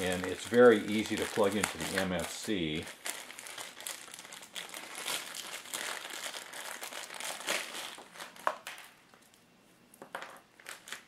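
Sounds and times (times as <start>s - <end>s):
plastic bag crinkling: 0.0s - 9.4s, 10.1s - 11.0s.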